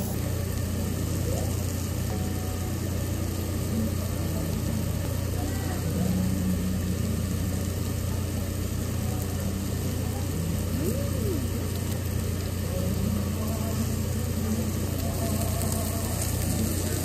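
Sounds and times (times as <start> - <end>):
faint voices: 0.0 - 17.0
restaurant background hum: 0.0 - 17.0.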